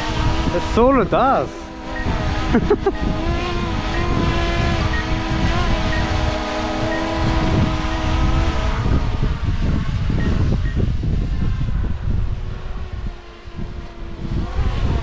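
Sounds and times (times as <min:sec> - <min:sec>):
drone propellers whining: 0:00.0 - 0:15.0
wind noise on microphone: 0:00.0 - 0:15.0.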